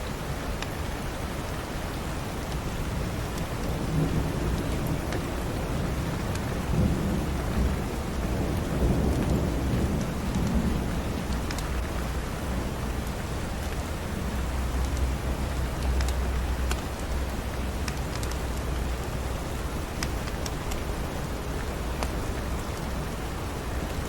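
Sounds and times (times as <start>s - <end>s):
steady rain: 0.0s - 24.0s
thunder rumble: 3.5s - 24.0s.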